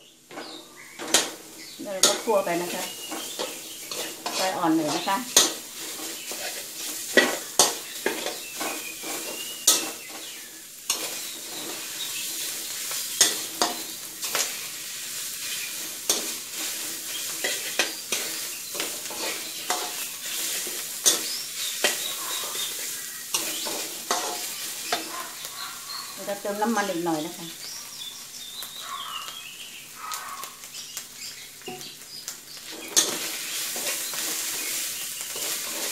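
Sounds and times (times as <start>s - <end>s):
food sizzling in oil: 0.0s - 35.9s
metal spatula scraping a wok: 0.2s - 26.5s, 32.7s - 35.9s.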